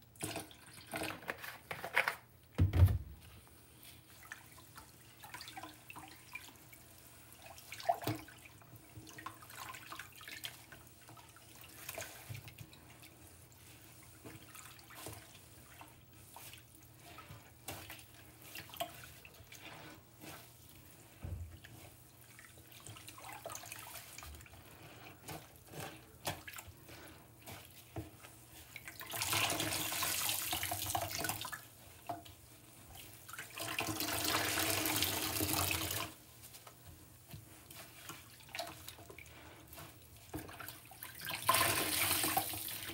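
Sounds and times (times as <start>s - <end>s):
sponges squelching in water: 3.7s - 42.9s.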